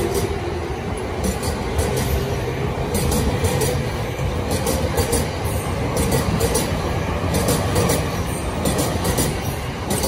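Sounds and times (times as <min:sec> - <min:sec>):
train rumble: 0:00.0 - 0:10.0
wheels clacking over rail joints: 0:00.0 - 0:10.0.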